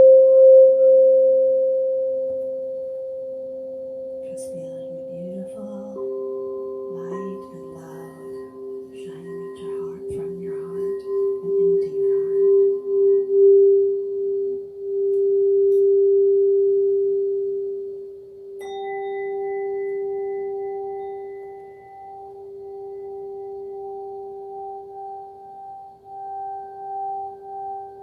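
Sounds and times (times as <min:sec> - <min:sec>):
higher-pitched bowl struck: 0:00.0 - 0:28.0
singing bowl ringing: 0:00.0 - 0:28.0.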